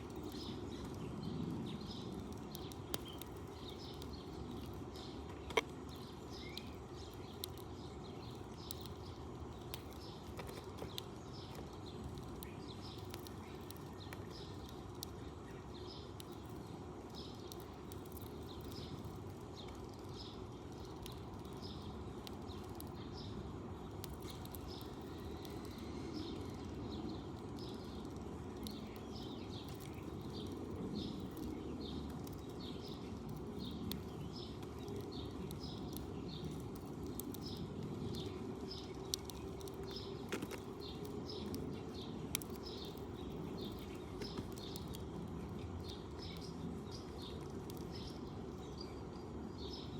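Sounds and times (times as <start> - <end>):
low background noise: 0.0 - 49.9
sparrows chirping: 0.0 - 49.9.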